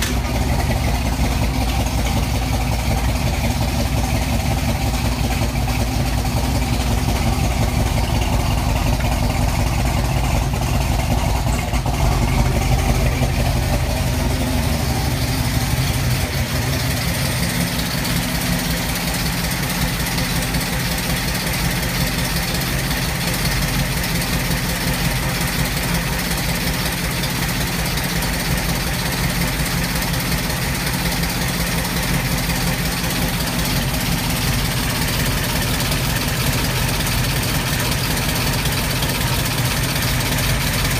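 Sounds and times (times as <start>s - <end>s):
car engine idling with misfire: 0.0s - 40.9s.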